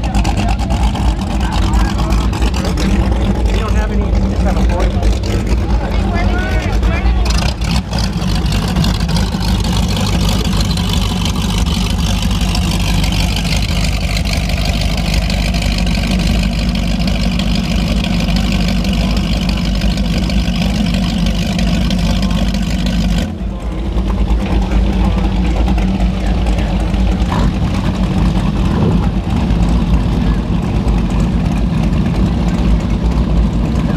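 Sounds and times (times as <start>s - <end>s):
boat engines idling: 0.0s - 33.9s.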